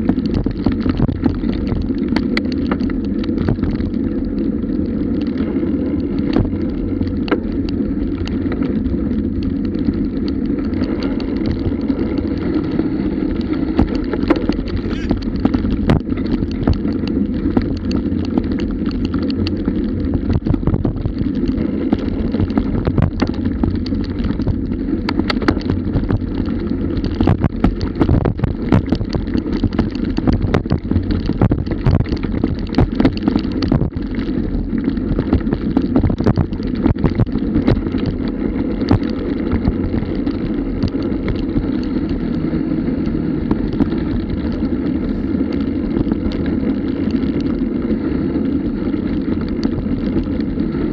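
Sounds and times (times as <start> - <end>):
bike knocking and rattling: 0.0 - 50.9
muffled rumble of wind and tyres: 0.0 - 50.9.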